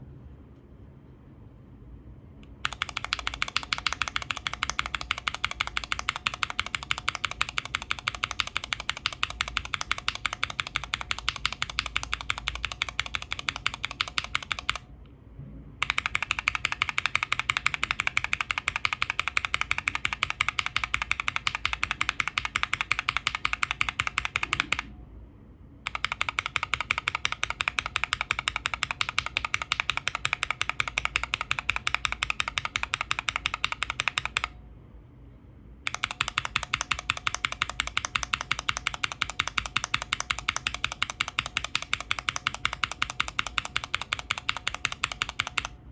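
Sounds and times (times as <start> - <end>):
mechanical keyboard switches clacking: 2.4 - 14.9, 15.8 - 24.9, 25.8 - 34.6, 35.9 - 45.8.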